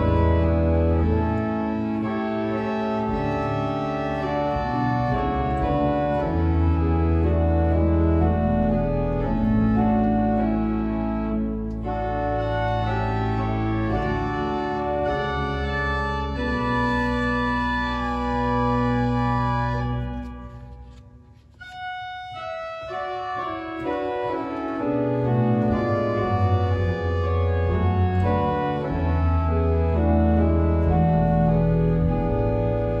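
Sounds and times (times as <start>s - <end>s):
pipe organ playing chords: 0.0s - 33.0s.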